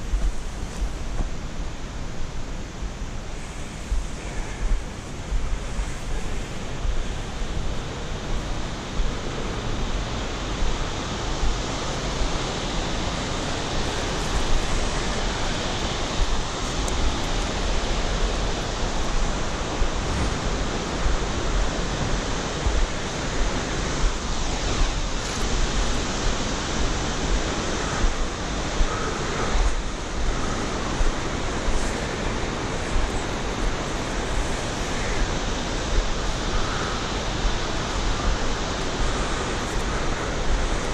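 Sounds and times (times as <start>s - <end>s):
river and waterfalls rushing: 0.0s - 40.9s
wind gusting on microphone: 0.0s - 40.9s.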